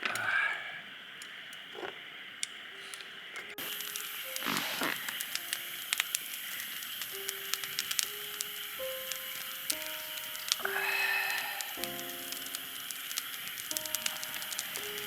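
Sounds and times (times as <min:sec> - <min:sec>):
campfire crackling and popping: 0:01.1 - 0:15.0
soft background music: 0:02.8 - 0:15.0.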